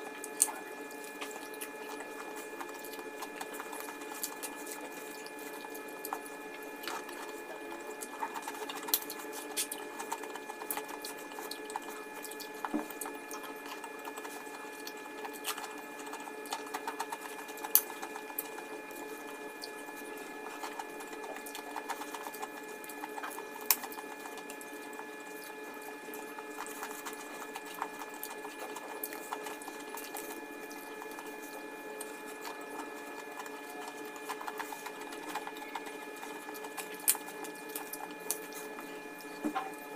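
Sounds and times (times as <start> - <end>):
chewing and mouth clicks: 0.0 - 39.7
steady background hum: 0.0 - 39.9.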